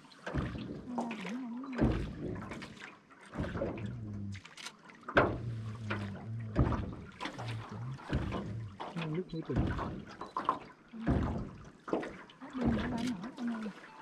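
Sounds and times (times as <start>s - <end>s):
oars splashing and knocking: 0.0s - 14.0s.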